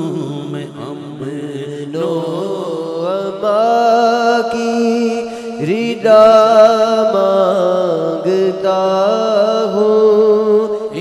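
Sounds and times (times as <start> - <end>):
man singing long held notes: 0.0 - 11.0.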